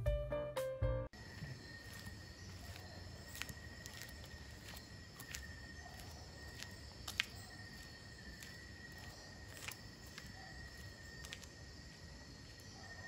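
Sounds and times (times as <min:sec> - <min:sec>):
high-pitched insect chorus: 0:01.2 - 0:13.0.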